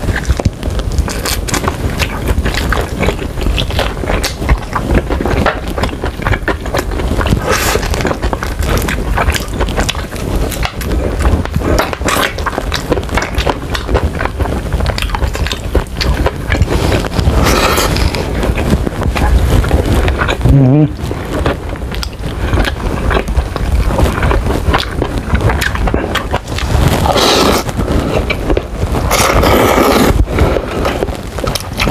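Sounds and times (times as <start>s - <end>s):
chewing chicken wings: 0.0s - 31.9s.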